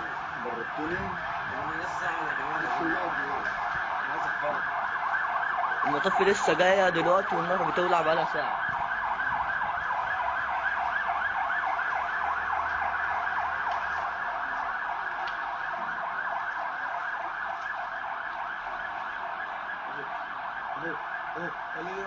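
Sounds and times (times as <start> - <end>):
emergency siren yelping: 0.0 - 22.0.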